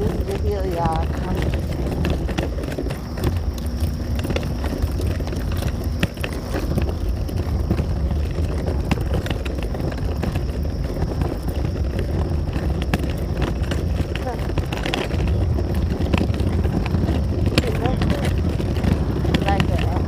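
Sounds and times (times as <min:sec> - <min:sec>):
footsteps walking: 0:00.0 - 0:20.0
wind rumble: 0:00.0 - 0:20.0.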